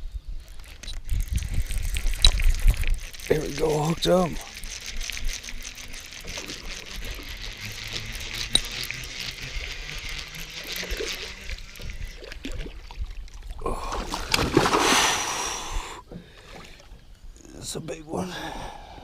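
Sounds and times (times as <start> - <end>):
water splashing and trickling: 0.4 - 17.0
fish thrashing in water: 0.5 - 16.9.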